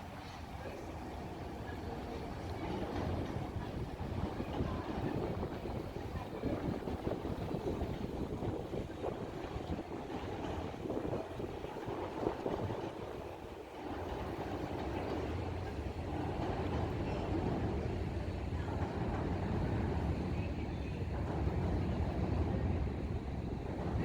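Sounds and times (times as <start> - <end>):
low engine rumble: 0.0 - 24.0
outdoor noise: 0.0 - 24.0.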